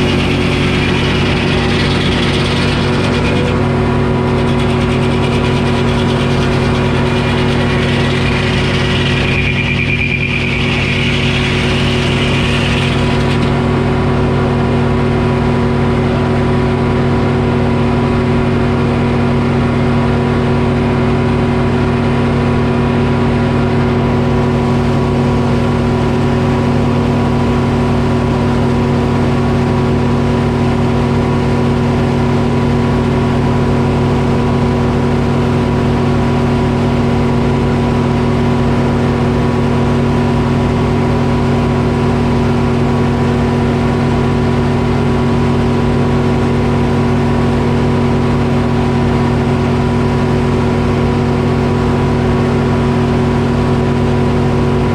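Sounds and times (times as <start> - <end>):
diesel engine running sawmill: 0.0 - 54.9.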